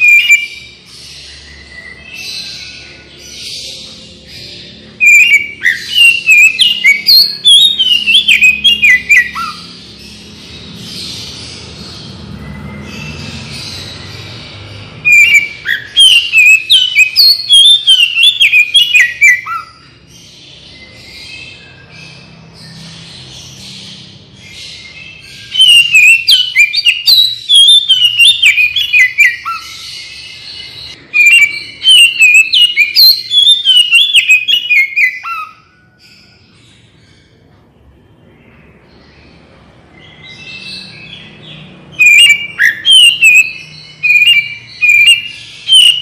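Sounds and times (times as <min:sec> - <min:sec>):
bird singing whistled notes: 0:00.0 - 0:37.2, 0:40.0 - 0:46.0.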